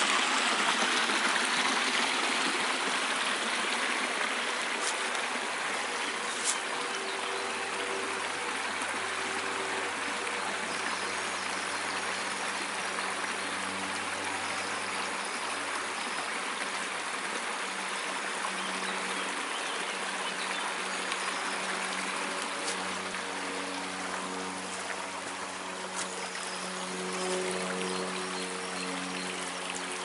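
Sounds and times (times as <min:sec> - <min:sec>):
brook babbling over stones: 0:00.0 - 0:30.0.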